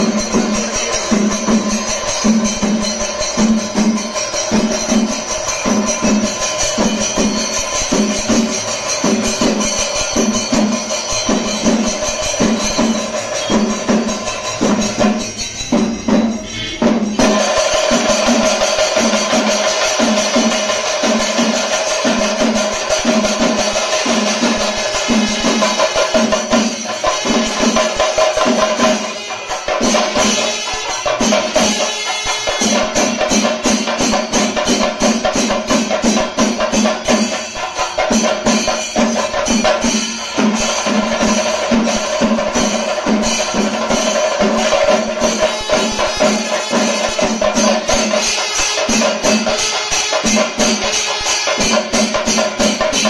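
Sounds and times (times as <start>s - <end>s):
drums beating fast rhythm: 0.0s - 53.0s
ringing cymbal strokes: 0.0s - 53.0s.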